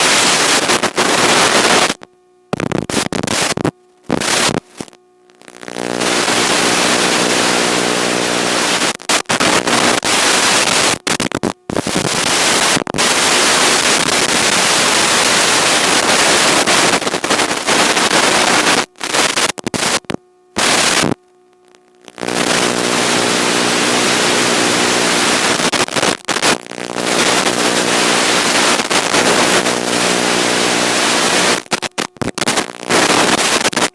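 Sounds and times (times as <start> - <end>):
loud static hiss with buzz: 0.0 - 33.9.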